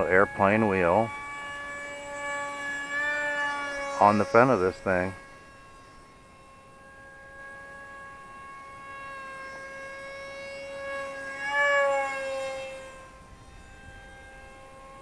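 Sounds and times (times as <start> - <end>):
electric motor propeller whine: 0.0 - 15.0.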